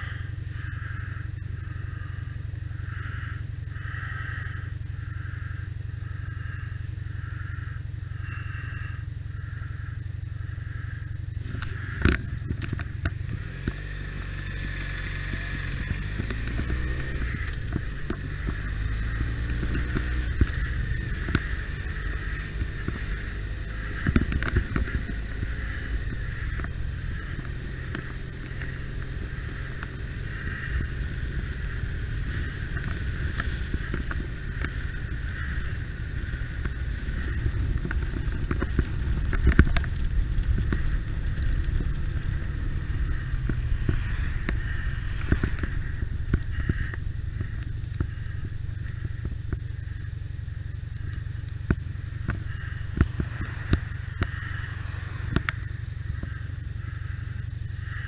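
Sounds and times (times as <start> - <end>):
motorcycle engine rumble: 0.0 - 58.0
road noise: 0.0 - 58.0.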